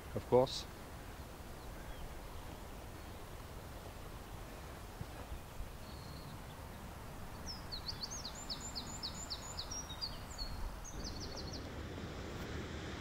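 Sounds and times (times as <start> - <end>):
songbird singing: 0.0 - 11.8
low wind rumble: 0.0 - 13.0.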